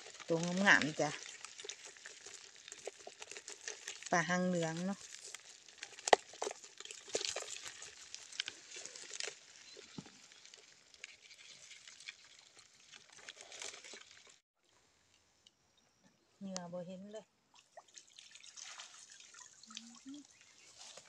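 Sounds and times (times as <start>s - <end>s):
fish and crabs flapping in bucket: 0.0s - 14.4s, 17.6s - 21.0s.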